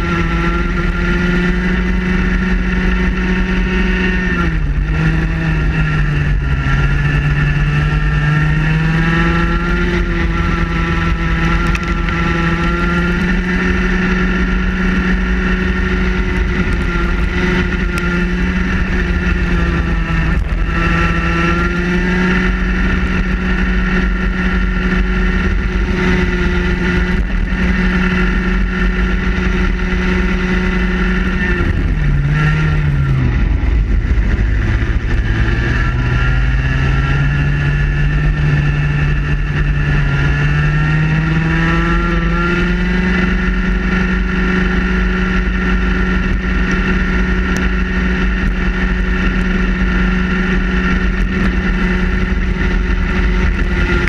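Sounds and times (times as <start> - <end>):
kart engine at full throttle: 0.0 - 54.0.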